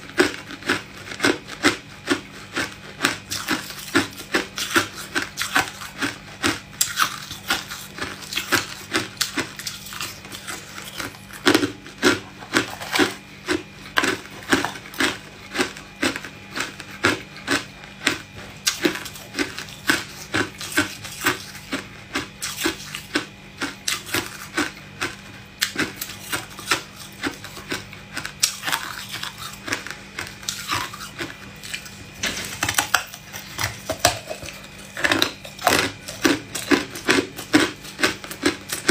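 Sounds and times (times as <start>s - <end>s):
person chewing ice crunching: 0.0s - 38.9s.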